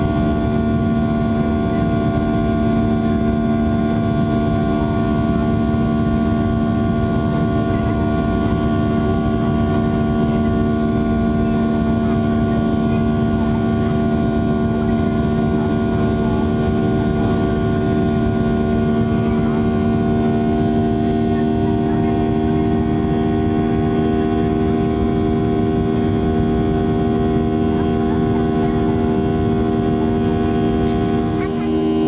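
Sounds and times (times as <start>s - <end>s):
jet engines droning: 0.0s - 32.0s.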